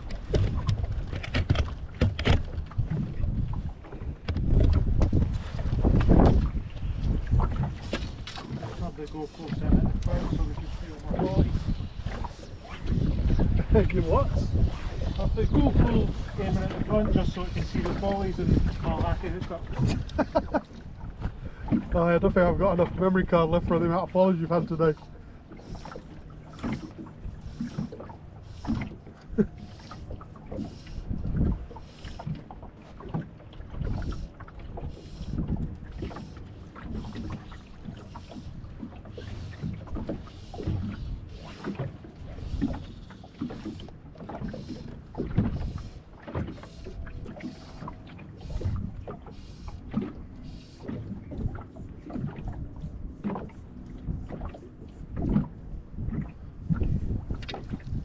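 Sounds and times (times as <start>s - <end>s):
waves lapping against boat hull: 0.0s - 58.0s.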